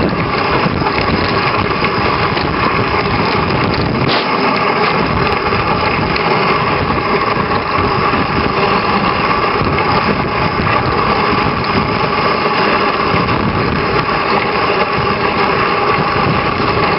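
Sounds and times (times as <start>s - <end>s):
sled runners scraping over snow: 0.0s - 16.9s.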